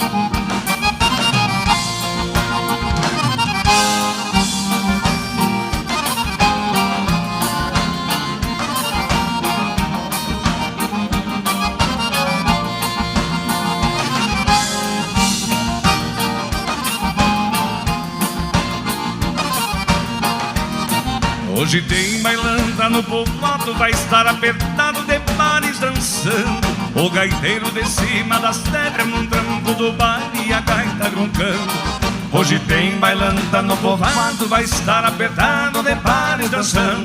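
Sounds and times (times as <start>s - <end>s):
button accordion melody: 0.0s - 37.0s.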